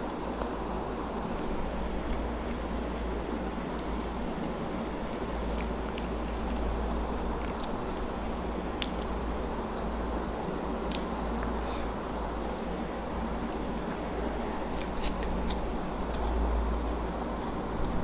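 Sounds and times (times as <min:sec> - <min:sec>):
background hiss and hum: 0:00.0 - 0:18.0
chewing: 0:01.2 - 0:11.9, 0:13.2 - 0:17.6.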